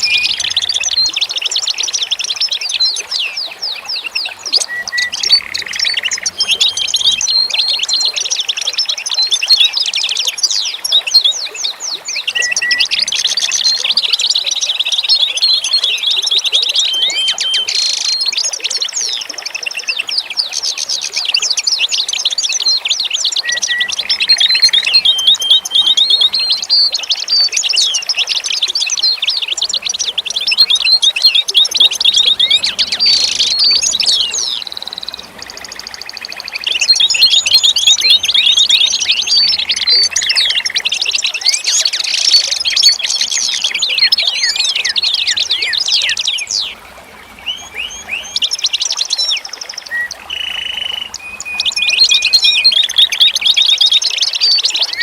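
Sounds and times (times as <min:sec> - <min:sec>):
songbirds chirping and singing: 0:00.0 - 0:55.0.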